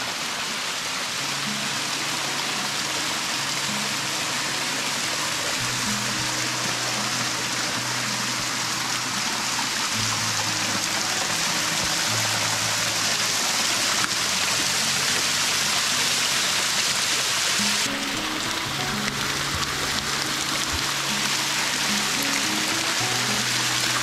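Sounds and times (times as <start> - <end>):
soft background music: 0.0 - 24.0
waterfall splashing onto rocks: 0.0 - 24.0.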